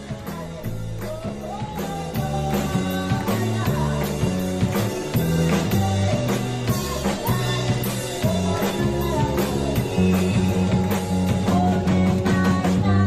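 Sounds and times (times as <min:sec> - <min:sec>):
band playing drums bass guitar: 0:00.0 - 0:13.0
woman singing pop song: 0:00.0 - 0:13.0.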